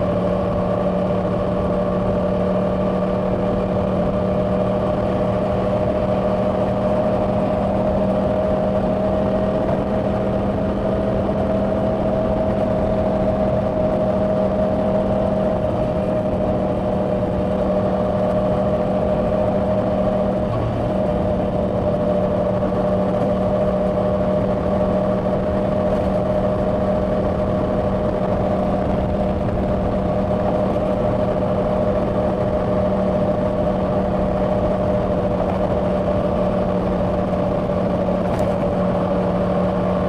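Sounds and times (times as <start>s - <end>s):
motorcycle engine cruising: 0.0s - 40.0s
wind rushing over microphone: 0.0s - 40.0s.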